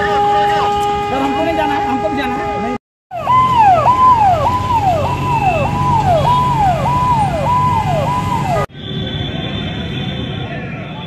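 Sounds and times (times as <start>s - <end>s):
fire engine siren: 0.0s - 11.0s.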